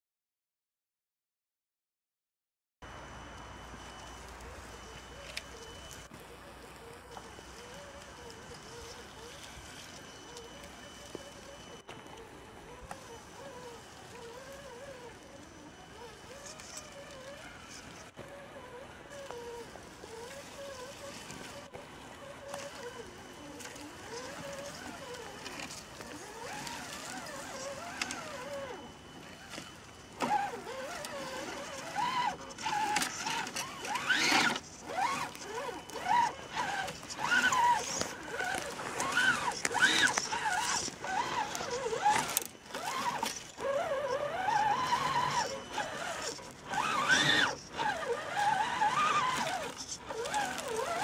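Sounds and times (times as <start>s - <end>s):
small electric motors whining: 2.9s - 51.0s
dry leaves and twigs crackling: 3.4s - 51.0s.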